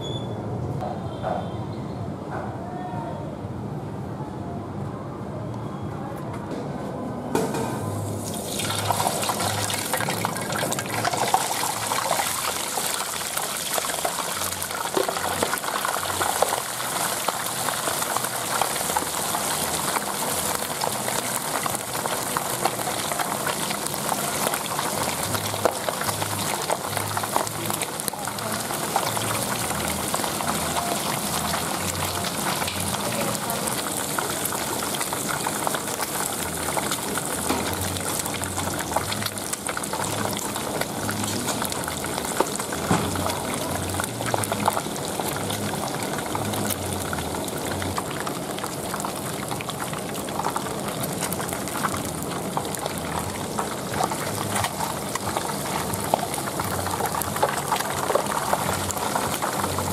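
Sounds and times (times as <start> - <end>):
oil sizzling and crackling: 7.9 - 59.9.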